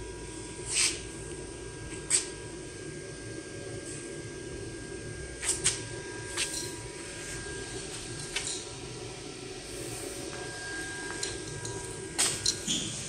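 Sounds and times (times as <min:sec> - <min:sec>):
faint high whine: 0:00.0 - 0:13.0
low machine hum: 0:00.0 - 0:13.0.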